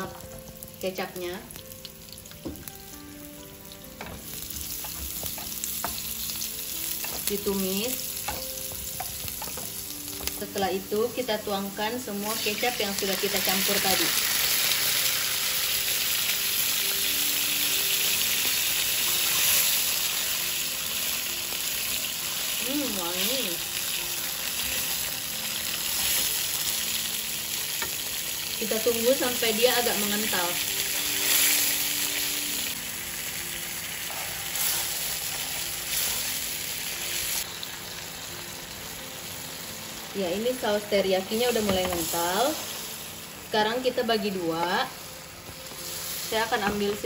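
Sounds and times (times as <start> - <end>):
sauce sizzling in a frying pan: 0.0 - 47.0.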